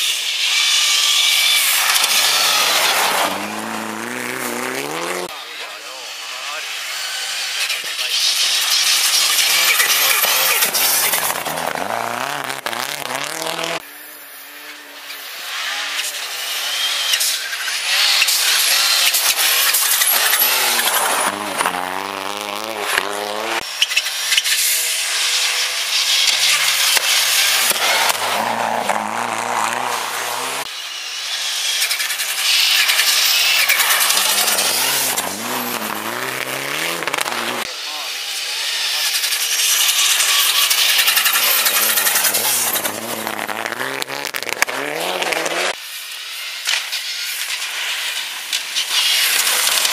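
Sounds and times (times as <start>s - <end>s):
rally car engines revving: 0.0s - 49.9s
tyres hissing on snow and gravel: 0.0s - 49.9s.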